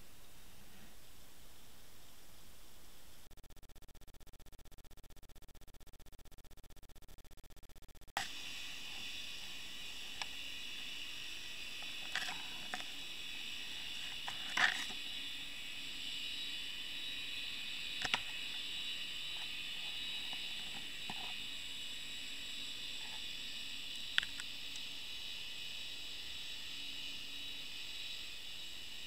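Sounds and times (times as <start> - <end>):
steady hiss: 0.0 - 3.3, 8.2 - 29.0.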